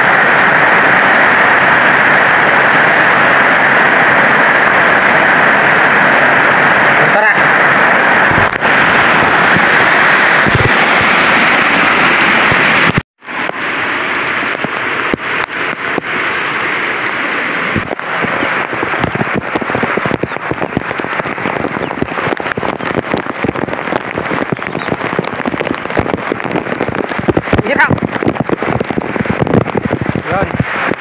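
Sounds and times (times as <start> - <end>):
patter of raindrops: 0.0 - 31.0
steady rain hiss: 0.0 - 31.0.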